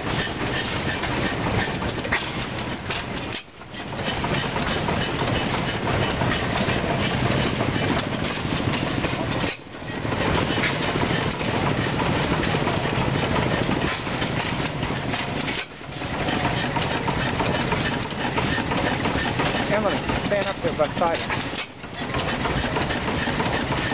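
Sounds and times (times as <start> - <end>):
machinery clattering: 0.0 - 23.9.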